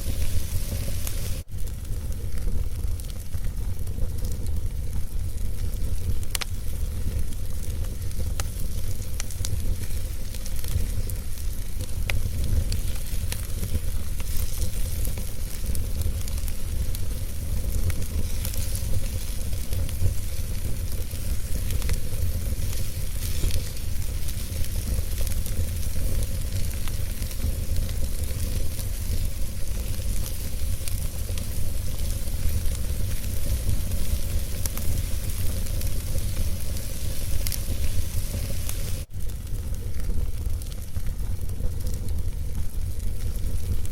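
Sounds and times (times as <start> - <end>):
flames rumbling and hissing: 0.0 - 43.9
wood crackling and popping: 0.0 - 43.9.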